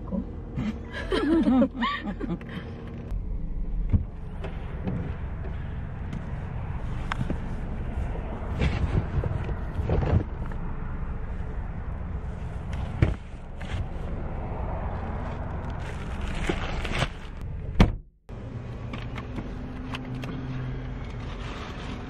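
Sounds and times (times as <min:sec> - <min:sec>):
steady low rumble: 0:00.0 - 0:18.4.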